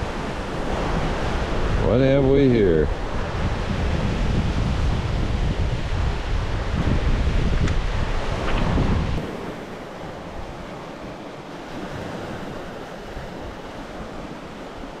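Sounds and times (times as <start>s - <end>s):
outdoor wind rushing: 0.0s - 15.0s
wind buffeting microphone: 0.0s - 15.0s.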